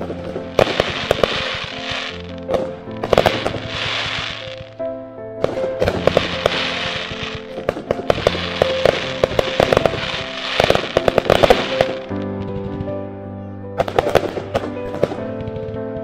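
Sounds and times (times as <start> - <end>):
fireworks cracking and crackling: 0.0 - 4.8, 5.4 - 13.0, 13.8 - 16.0
background music with held notes: 0.0 - 16.0.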